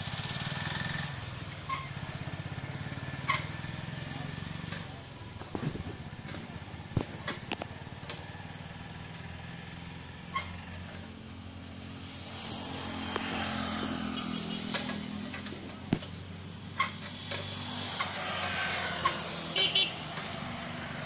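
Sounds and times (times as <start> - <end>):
motorcycle passing: 0.0 - 21.0.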